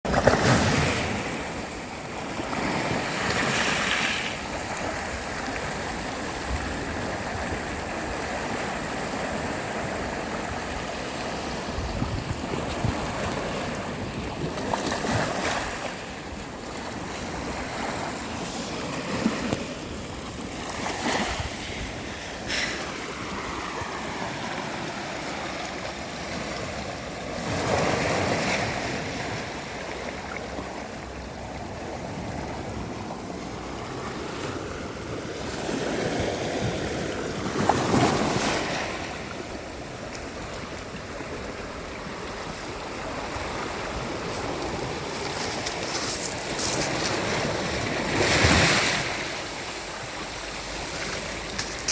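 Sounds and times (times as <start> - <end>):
sea waves breaking on beach: 0.1 - 51.9.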